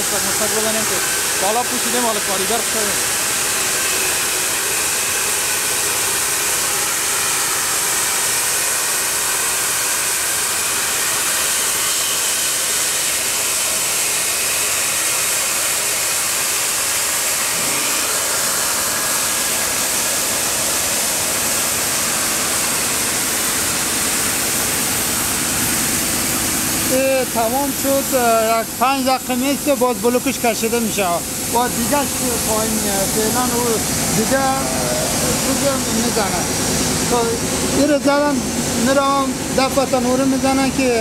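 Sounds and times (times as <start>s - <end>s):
loud steam hiss: 0.0s - 41.0s.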